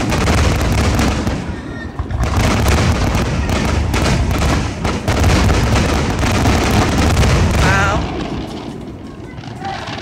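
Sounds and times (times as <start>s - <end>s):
fireworks bangs and crackling: 0.0s - 10.0s.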